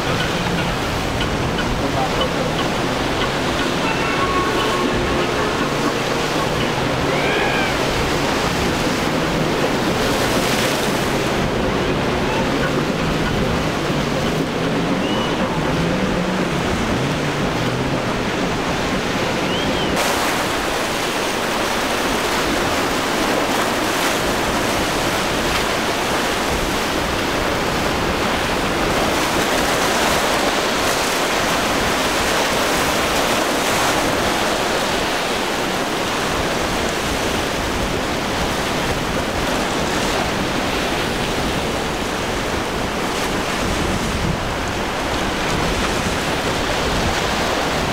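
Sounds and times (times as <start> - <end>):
breaking waves and surf: 0.0 - 47.9
wind on microphone: 0.0 - 47.9.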